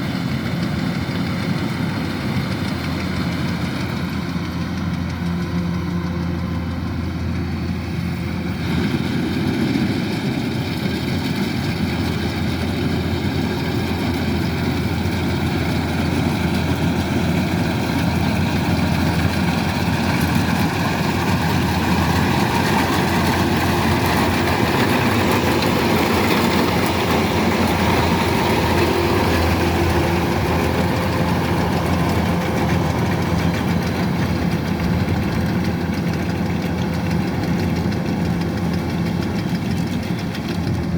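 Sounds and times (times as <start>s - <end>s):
combine harvester drone: 0.0s - 40.9s.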